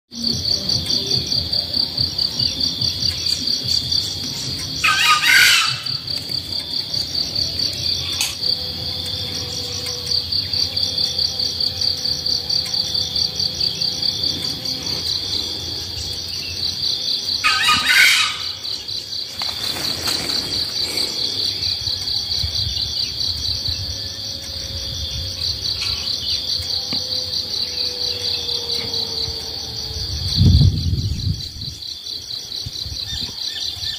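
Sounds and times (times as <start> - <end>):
insects trilling: 0.1 - 33.9
bird calls: 0.6 - 11.8, 12.4 - 29.6.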